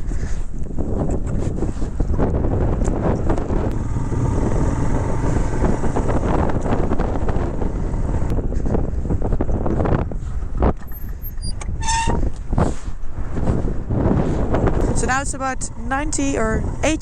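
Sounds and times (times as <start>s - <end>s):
wind buffeting microphone: 0.0s - 17.0s
motorcycle engine running: 0.7s - 11.5s, 12.3s - 17.0s.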